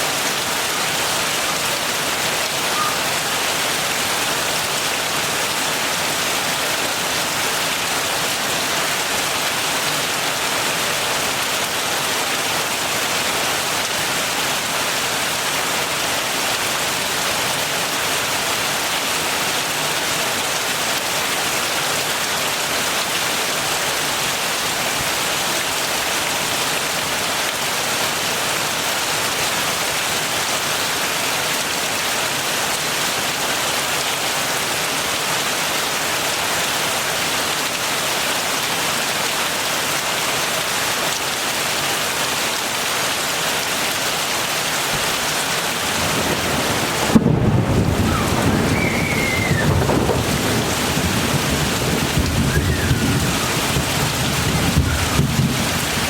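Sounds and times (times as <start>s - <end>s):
heavy rain pattering: 0.0s - 56.0s.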